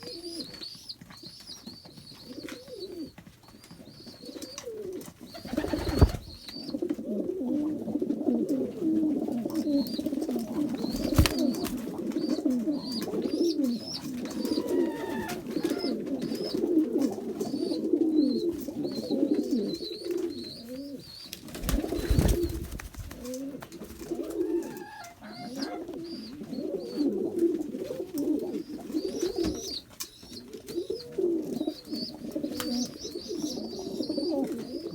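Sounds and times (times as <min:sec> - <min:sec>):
pigeons cooing: 0:00.0 - 0:34.9.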